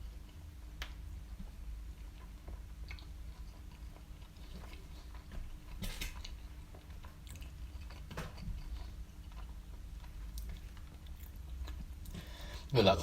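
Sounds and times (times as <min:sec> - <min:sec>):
wet chewing and smacking: 0:00.0 - 0:12.7.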